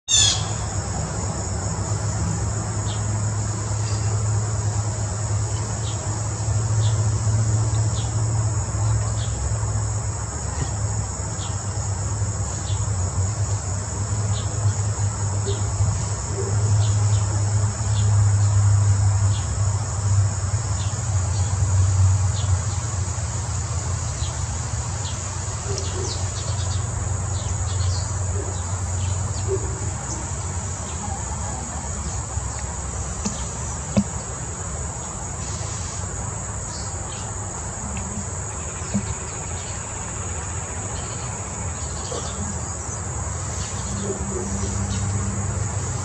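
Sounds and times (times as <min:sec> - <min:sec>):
insect chorus: 0:00.1 - 0:46.0.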